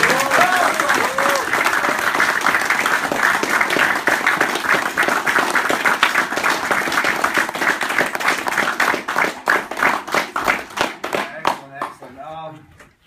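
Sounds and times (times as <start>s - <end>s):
people clapping: 0.0s - 12.4s.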